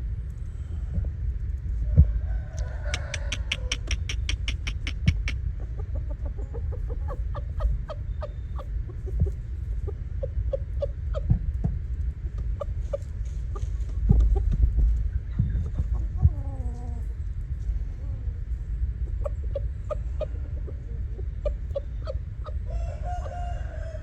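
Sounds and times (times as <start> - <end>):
chickens clucking: 1.9 - 24.0.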